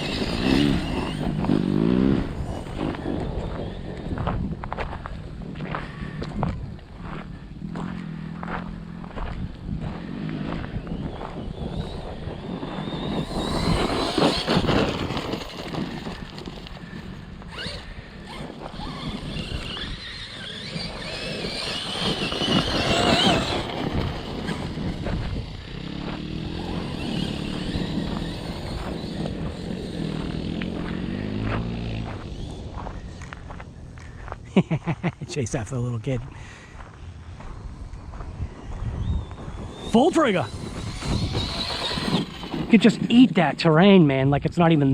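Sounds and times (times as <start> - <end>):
rc truck motor whining: 0.0 - 6.4, 8.0 - 34.0, 37.5 - 43.8
tyres crunching on rough ground: 0.0 - 44.9.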